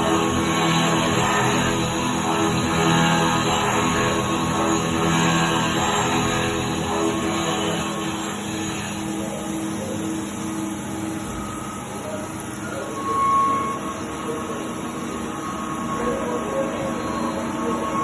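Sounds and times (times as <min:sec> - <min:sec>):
machining center whining: 0:00.0 - 0:18.0.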